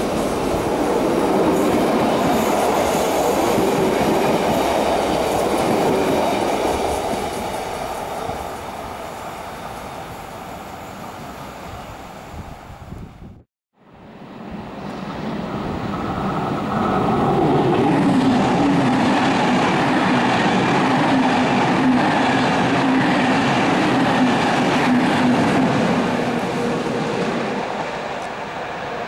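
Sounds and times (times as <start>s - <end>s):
train wheels rumbling on rail: 0.0s - 13.3s, 14.5s - 29.0s
train humming tone: 0.0s - 29.0s.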